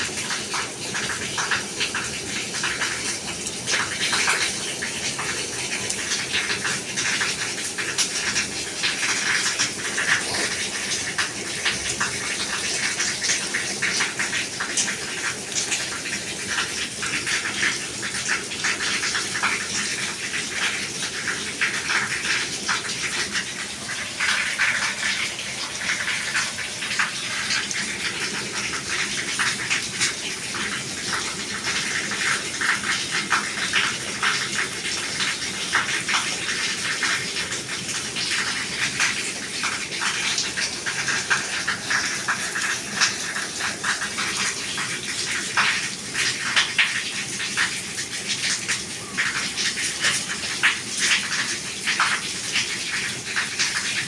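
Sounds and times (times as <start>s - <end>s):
steady rain: 0.0s - 54.0s
water splashing and running: 0.0s - 54.0s.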